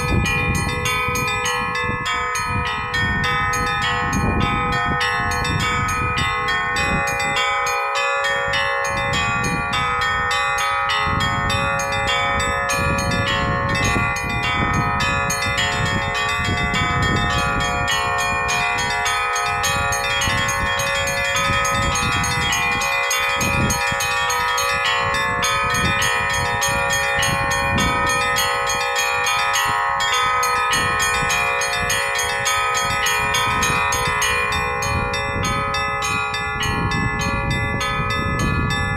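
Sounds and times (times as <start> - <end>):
large bells humming: 0.0 - 38.9
small bells struck rapidly: 0.0 - 38.9.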